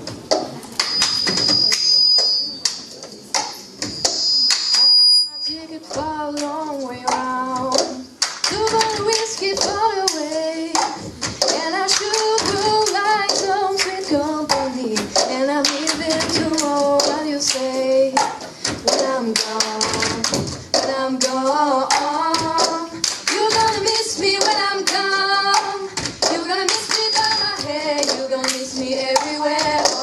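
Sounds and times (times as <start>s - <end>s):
hand claps: 0.3s - 5.0s, 5.9s - 30.0s
girls singing: 5.4s - 30.0s.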